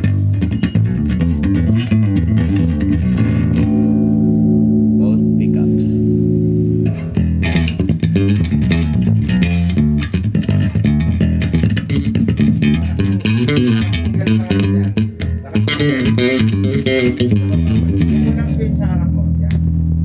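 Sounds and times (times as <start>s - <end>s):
electric bass plucked notes: 0.0s - 20.0s.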